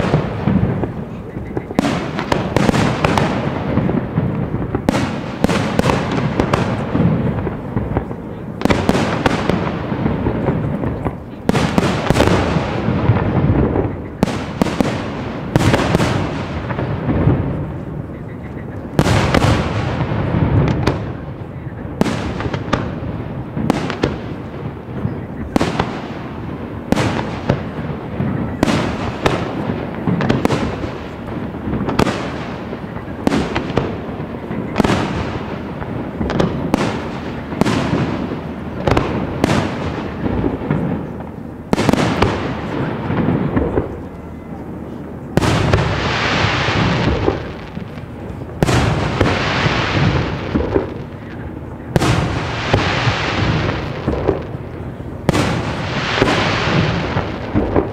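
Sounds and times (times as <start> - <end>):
long noisy firework bursts: 0.0 - 57.9.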